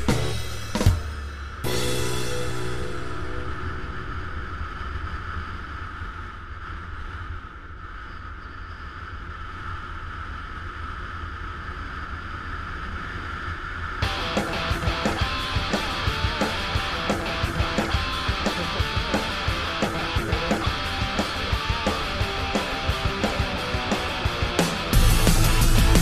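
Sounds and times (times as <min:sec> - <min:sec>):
rushing wind noise: 0:03.0 - 0:26.0.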